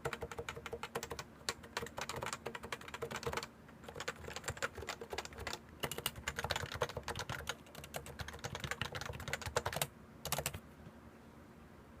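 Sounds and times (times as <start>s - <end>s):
typing on a keyboard: 0.0s - 10.6s.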